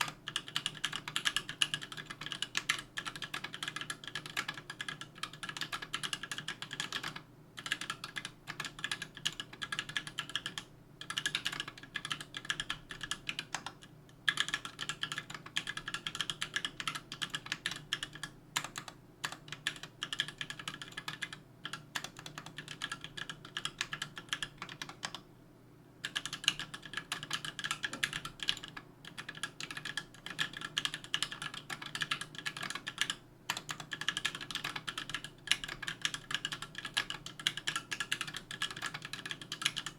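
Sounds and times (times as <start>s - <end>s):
mechanical keyboard typing: 0.0s - 25.2s, 26.0s - 39.9s.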